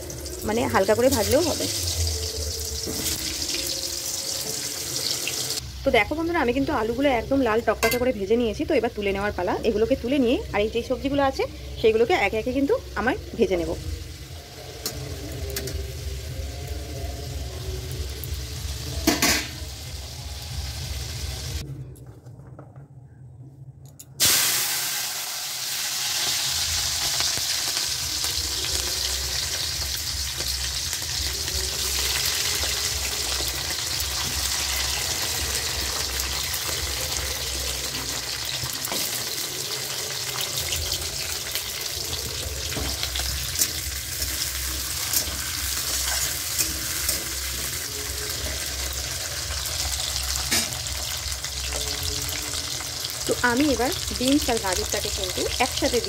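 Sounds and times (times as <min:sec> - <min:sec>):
vegetables sizzling in oil: 0:00.0 - 0:21.6, 0:24.2 - 0:56.0.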